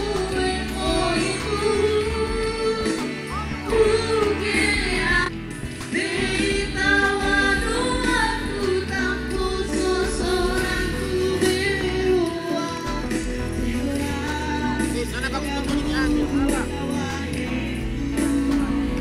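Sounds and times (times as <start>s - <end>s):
song with sung vocals: 0.0s - 19.0s.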